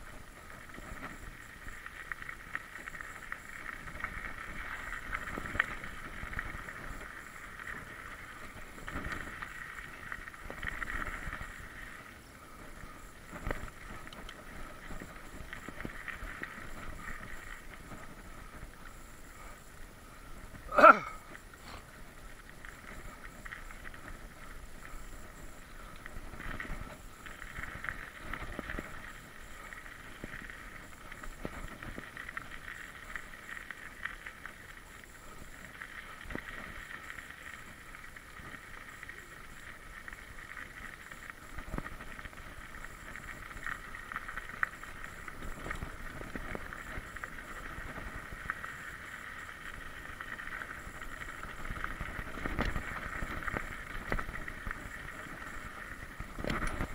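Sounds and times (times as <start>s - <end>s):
bike rolling on dirt trail: 0.0s - 56.9s.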